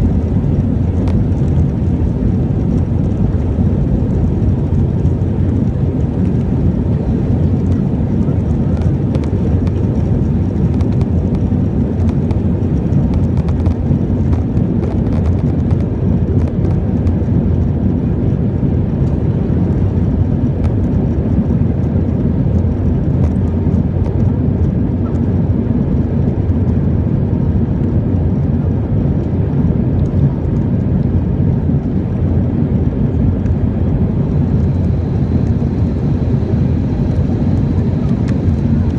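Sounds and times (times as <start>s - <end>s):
jet airliner cabin engine noise: 0.0s - 38.9s.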